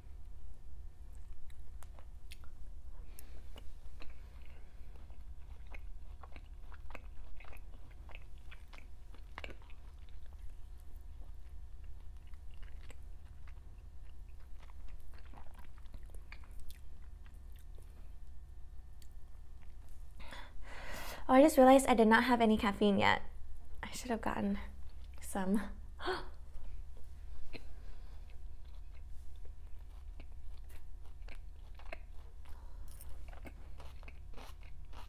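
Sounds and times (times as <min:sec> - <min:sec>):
steady low hum: 0:00.0 - 0:35.0
person chewing food: 0:01.1 - 0:20.5, 0:24.8 - 0:25.2, 0:26.4 - 0:35.0.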